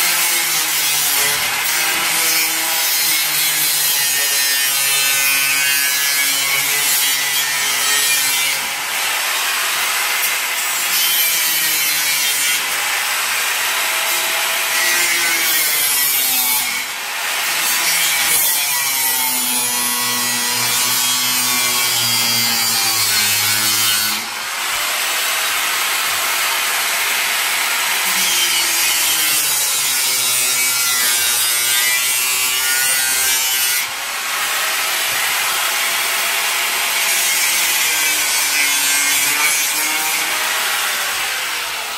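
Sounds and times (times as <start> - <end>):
angle grinder cutting steel: 0.0 - 41.9.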